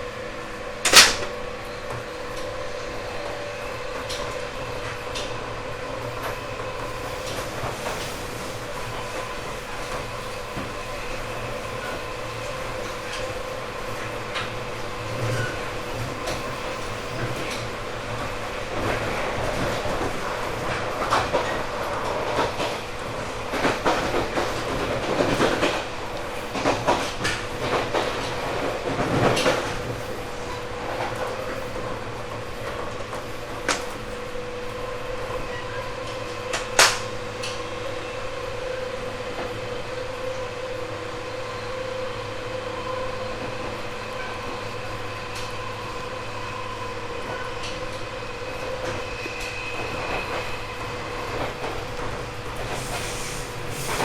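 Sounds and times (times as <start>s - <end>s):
train motor hum: 0.0s - 54.0s
wheels rumbling on rails: 0.0s - 54.0s.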